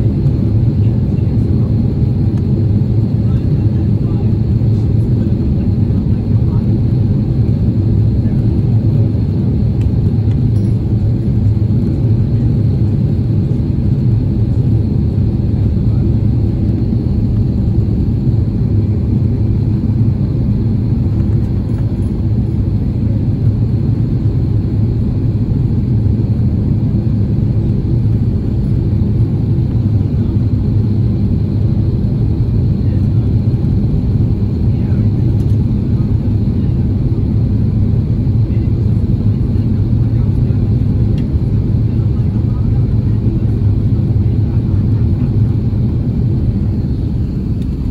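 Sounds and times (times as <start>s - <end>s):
airplane cabin rumble: 0.0s - 47.9s.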